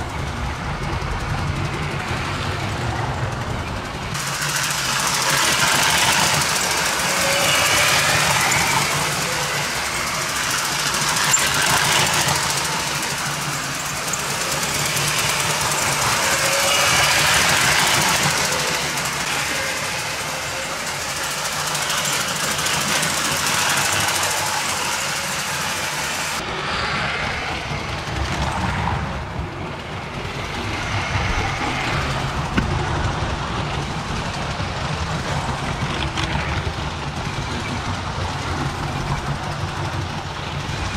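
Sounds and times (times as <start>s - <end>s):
toy train motor hum: 0.0s - 40.9s
wheels clattering over rails: 0.0s - 40.9s.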